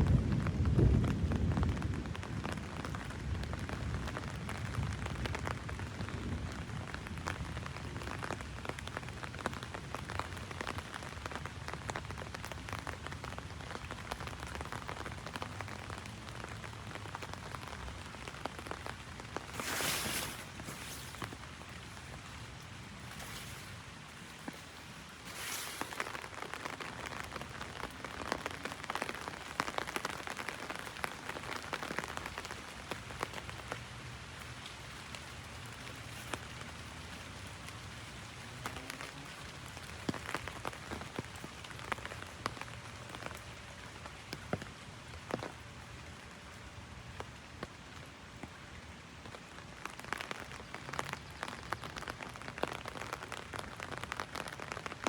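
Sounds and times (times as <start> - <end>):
heavy rain on an umbrella: 0.0 - 55.0.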